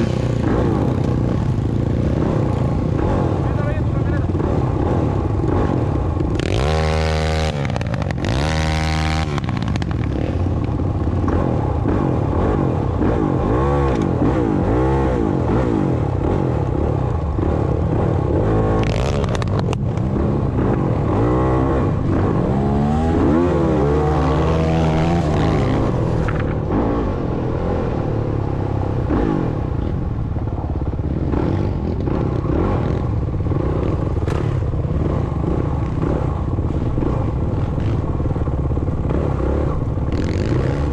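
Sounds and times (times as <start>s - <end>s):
motocross bike engine revving: 0.0s - 30.2s, 30.8s - 40.9s.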